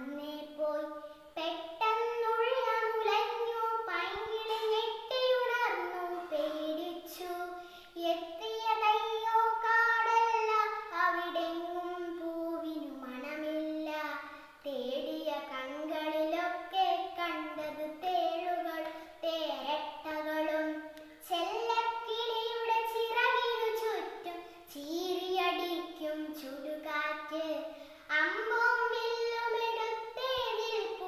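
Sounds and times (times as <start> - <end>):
girl singing unaccompanied: 0.0 - 31.0.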